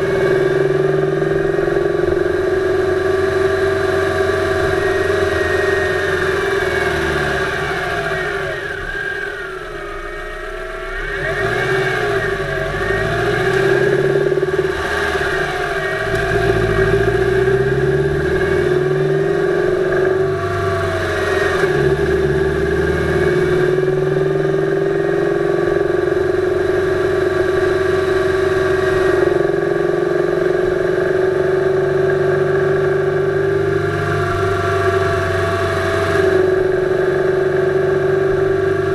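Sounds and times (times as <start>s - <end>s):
car engine revving: 0.0s - 38.9s
steady whine: 0.0s - 38.9s.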